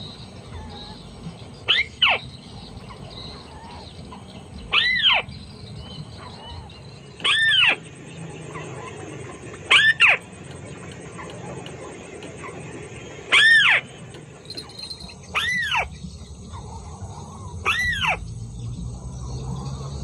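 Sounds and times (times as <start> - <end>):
crake calls: 0.0 - 18.3
high insect-like whine: 0.0 - 20.0.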